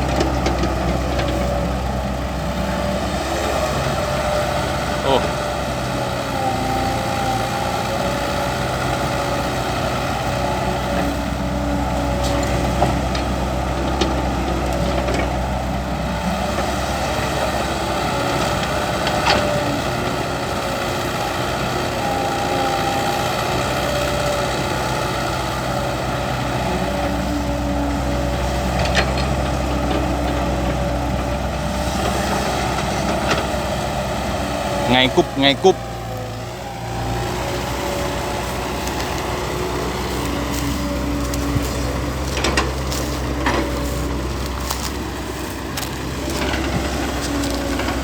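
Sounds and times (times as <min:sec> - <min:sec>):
heavy diesel machinery running: 0:00.0 - 0:48.0.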